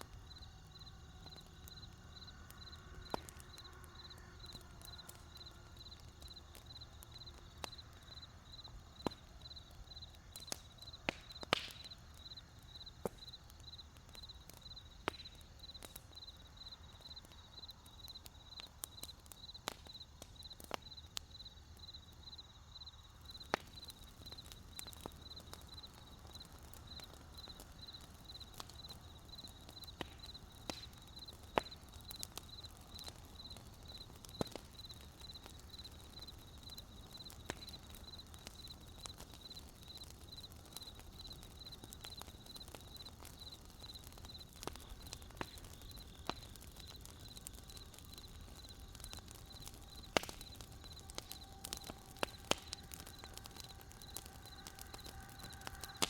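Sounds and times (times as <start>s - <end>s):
campfire crackling and popping: 0.0s - 56.0s
cricket chirping: 0.0s - 56.0s.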